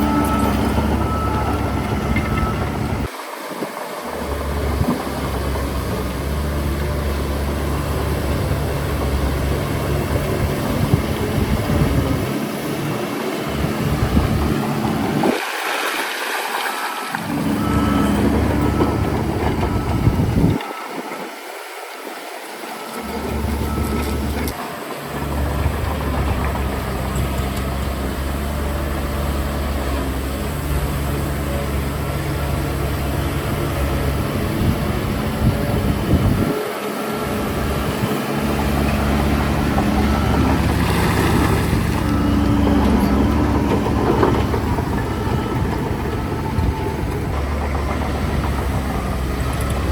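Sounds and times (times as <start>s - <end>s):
diesel machinery engine rumbling: 0.0s - 49.9s.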